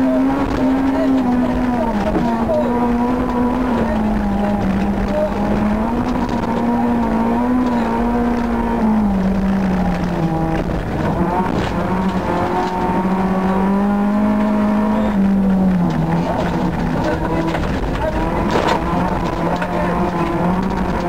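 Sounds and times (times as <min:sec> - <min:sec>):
rally car engine from inside cabin: 0:00.0 - 0:21.0.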